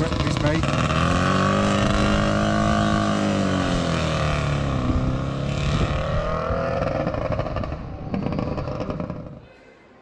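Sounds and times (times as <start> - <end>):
motorcycle engines riding away: 0.0 - 9.4.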